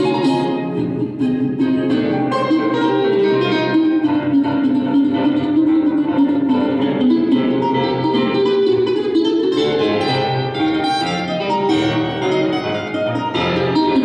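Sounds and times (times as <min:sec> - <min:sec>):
mandolin melody: 0:00.0 - 0:14.0
piano chords and bass notes: 0:00.0 - 0:14.0.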